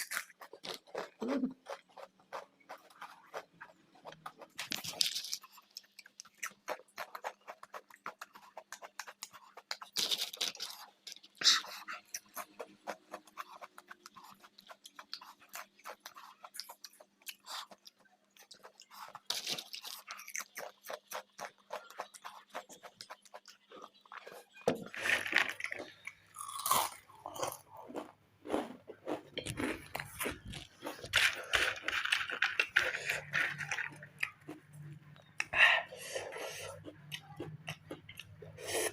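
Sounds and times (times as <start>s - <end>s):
chewing crisp chips: 0.0s - 38.9s.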